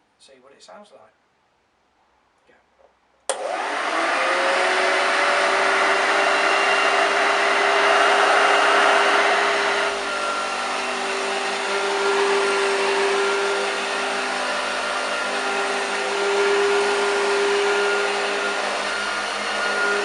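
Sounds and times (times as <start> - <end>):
vacuum cleaner running: 3.3 - 20.0.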